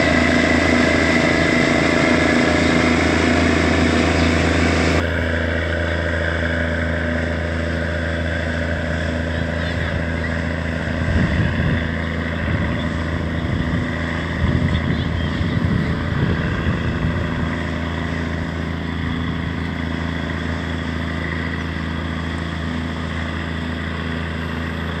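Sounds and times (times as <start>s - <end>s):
boat engine drone: 0.0s - 25.0s
low rumbling: 0.0s - 25.0s.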